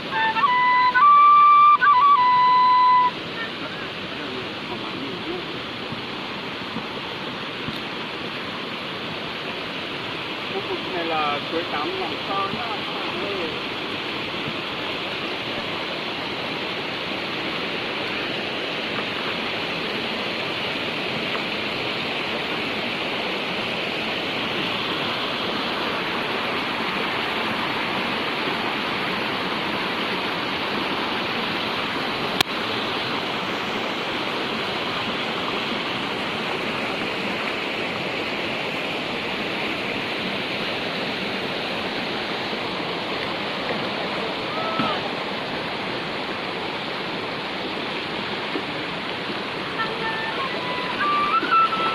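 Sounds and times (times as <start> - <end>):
water rushing: 0.0 - 51.9.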